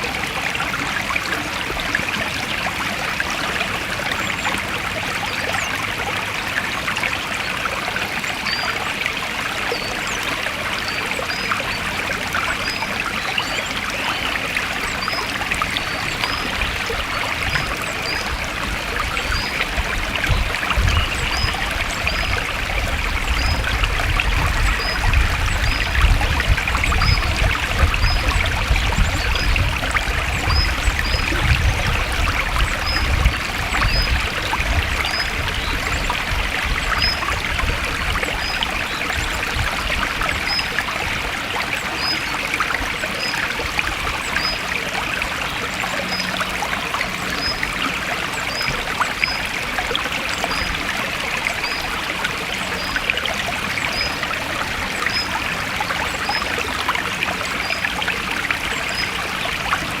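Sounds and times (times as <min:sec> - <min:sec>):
stream flowing: 0:00.0 - 1:00.0.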